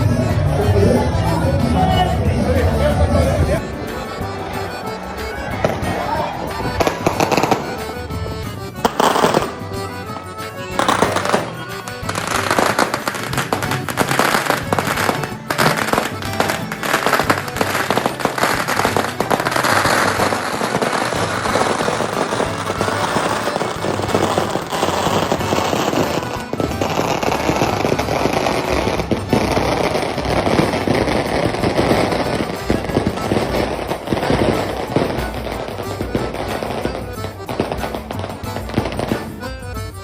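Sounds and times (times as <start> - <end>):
music playing: 0.0 - 40.0
firecrackers crackling and popping: 3.0 - 40.0.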